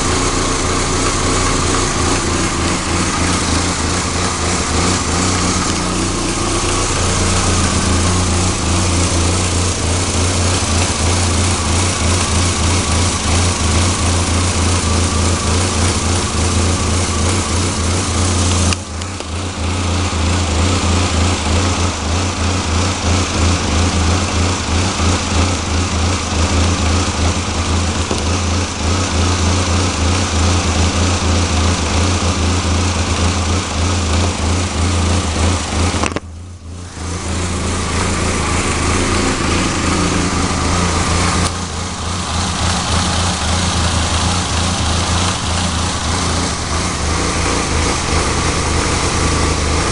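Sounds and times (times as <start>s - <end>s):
car engine idling roughly: 0.0s - 49.9s.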